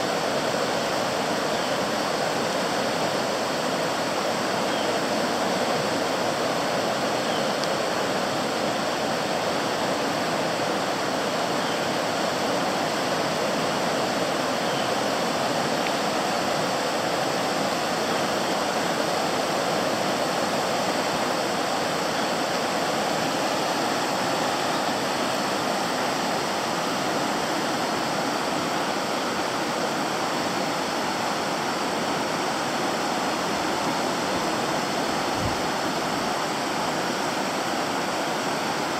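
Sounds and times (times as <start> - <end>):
rushing floodwater: 0.0 - 38.9.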